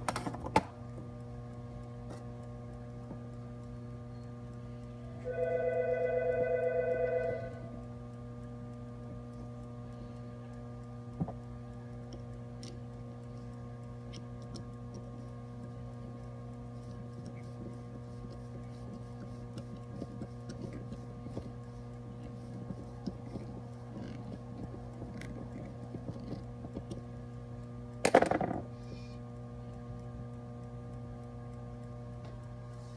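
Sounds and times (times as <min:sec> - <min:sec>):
mains hum: 0:00.0 - 0:32.9.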